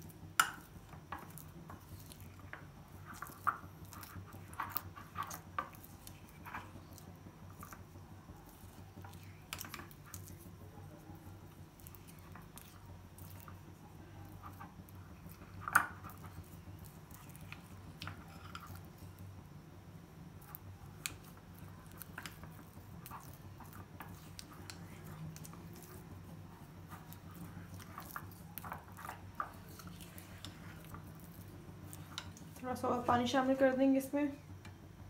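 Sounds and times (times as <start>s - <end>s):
spoon squelching in thick paste: 0.0s - 19.2s, 20.3s - 32.8s
steady low hum: 0.0s - 35.0s.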